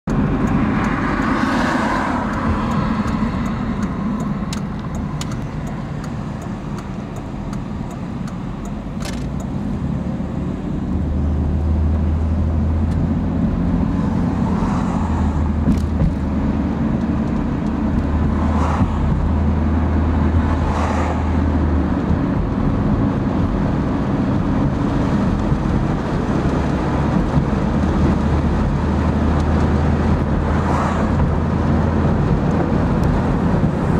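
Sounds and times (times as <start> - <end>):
tyre and engine rumble: 0.0 - 33.9
vehicles swishing past: 0.1 - 10.3, 11.1 - 33.9.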